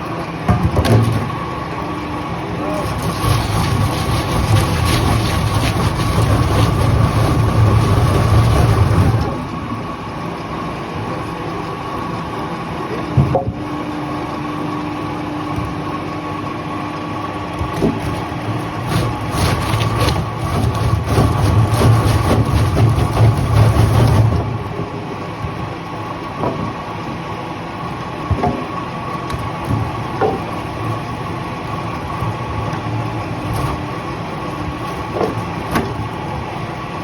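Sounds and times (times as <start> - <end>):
heavy machinery engine running: 0.0 - 37.0.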